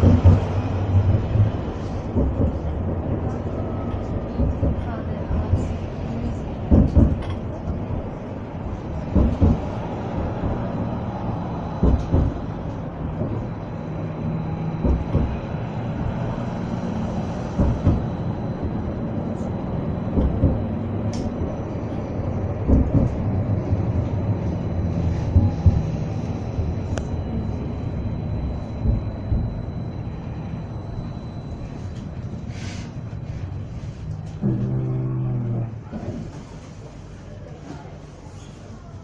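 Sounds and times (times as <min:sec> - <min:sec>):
tram rumbling along street: 0:00.0 - 0:39.0.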